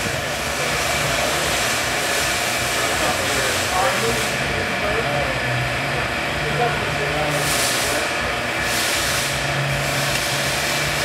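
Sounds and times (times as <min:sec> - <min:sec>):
hydraulic pump whirring hiss: 0:00.0 - 0:11.0.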